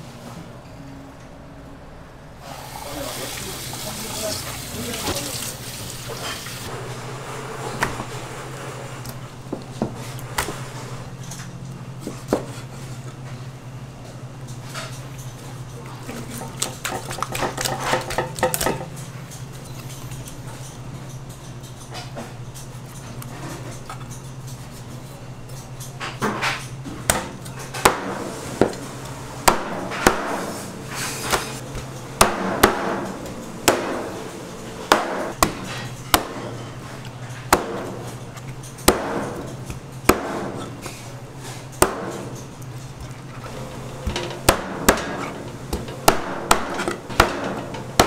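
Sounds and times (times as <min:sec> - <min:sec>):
steady low hum: 0:05.8 - 0:48.0.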